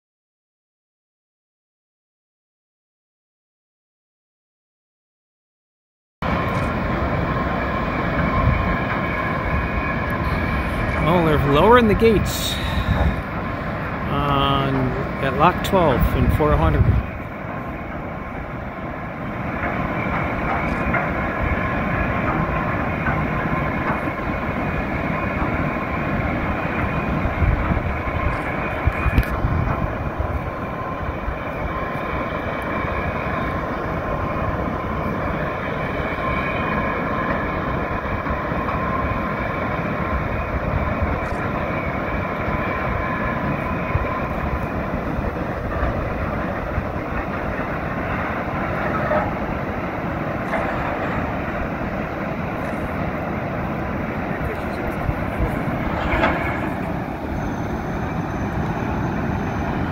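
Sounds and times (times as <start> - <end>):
river water rushing through dam gates: 6.3 - 59.9.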